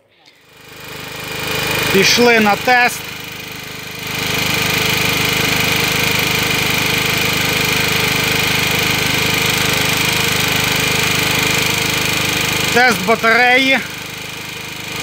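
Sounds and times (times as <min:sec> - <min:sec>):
petrol generator engine running: 0:00.2 - 0:15.0.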